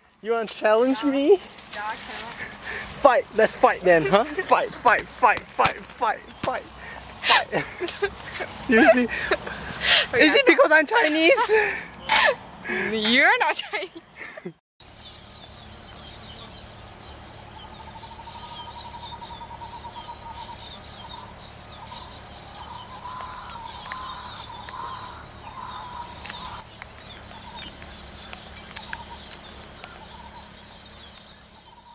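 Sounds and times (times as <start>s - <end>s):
bird calls: 0.0s - 10.8s, 14.2s - 31.9s
steady low hum: 0.0s - 13.0s, 14.8s - 31.9s.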